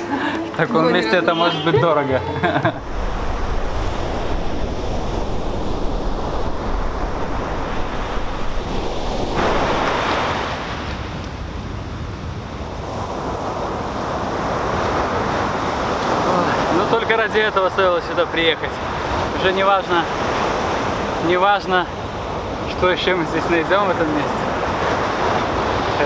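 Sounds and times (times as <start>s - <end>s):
surf breaking on a beach: 0.0s - 26.0s
wave crashing: 1.1s - 26.0s.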